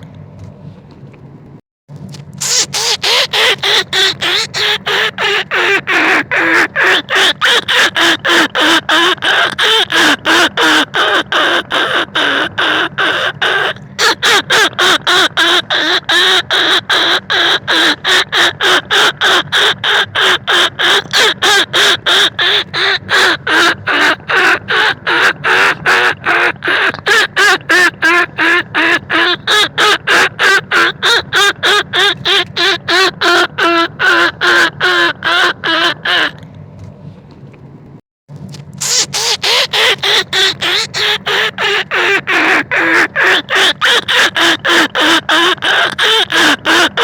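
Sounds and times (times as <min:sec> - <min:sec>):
squeaky rat calls: 0:02.4 - 0:36.4, 0:38.8 - 0:47.0.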